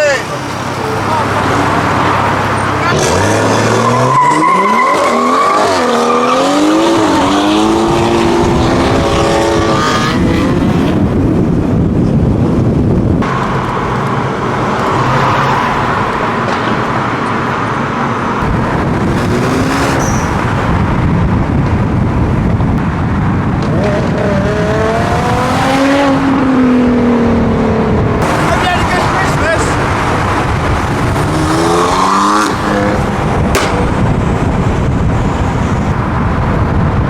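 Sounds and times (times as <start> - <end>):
road noise: 0.0 - 37.0
car engine revving: 0.9 - 11.6, 13.1 - 36.7.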